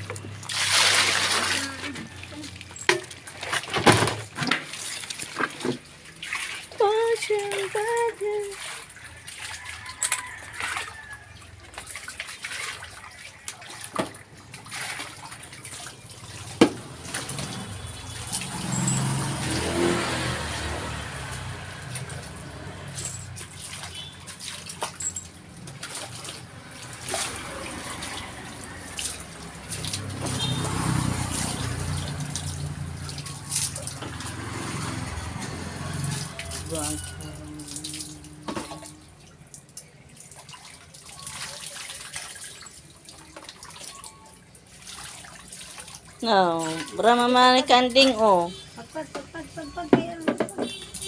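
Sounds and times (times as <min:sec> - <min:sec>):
water splashing and dripping: 0:00.0 - 0:51.0.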